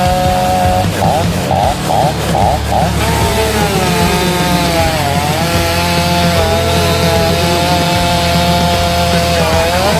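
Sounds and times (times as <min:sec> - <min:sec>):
chainsaw cutting wood: 0:00.0 - 0:09.9.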